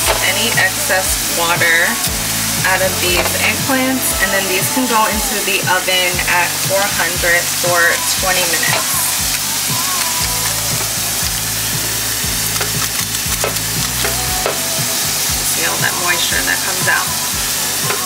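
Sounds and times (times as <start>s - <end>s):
background music with beat: 0.0s - 18.0s
food sizzling in a frying pan: 0.0s - 18.0s.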